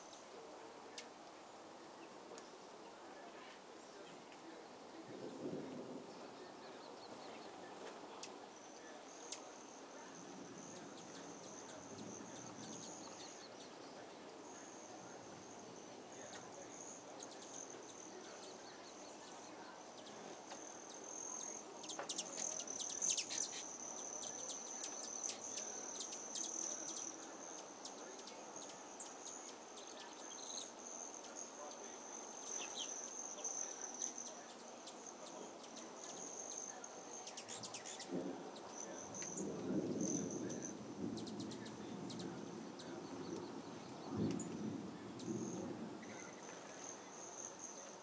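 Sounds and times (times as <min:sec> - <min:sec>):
insects trilling: 0:08.1 - 0:48.0.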